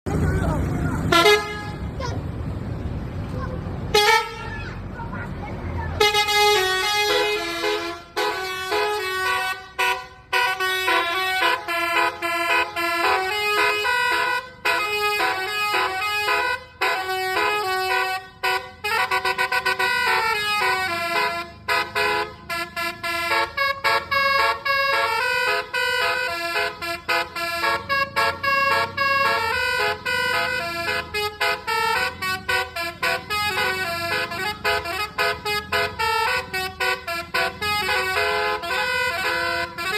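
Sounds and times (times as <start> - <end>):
bus air horn melody: 1.0 - 2.0, 3.9 - 4.7, 6.0 - 39.9.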